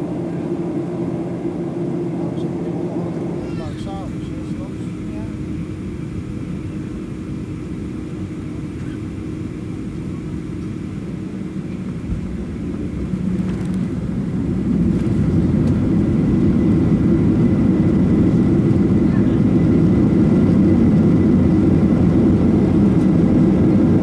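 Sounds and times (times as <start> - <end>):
airliner engine cabin rumble: 0.0 - 24.0.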